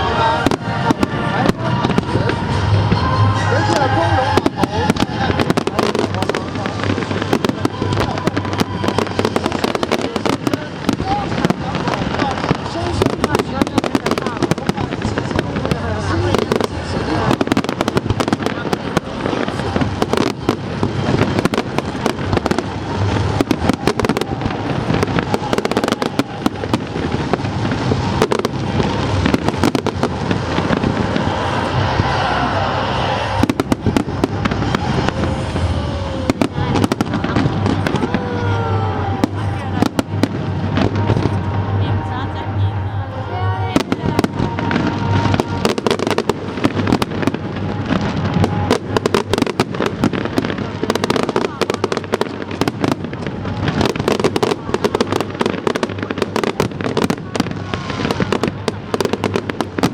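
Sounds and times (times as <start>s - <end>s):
crackling firework cracks: 0.0s - 42.1s, 43.2s - 59.9s
firework bangs: 0.0s - 59.9s.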